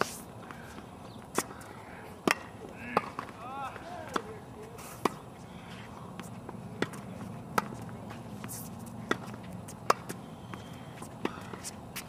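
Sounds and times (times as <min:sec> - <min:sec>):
tennis balls bouncing on hard court: 0:00.0 - 0:12.0
tennis balls struck by rackets: 0:00.0 - 0:12.0.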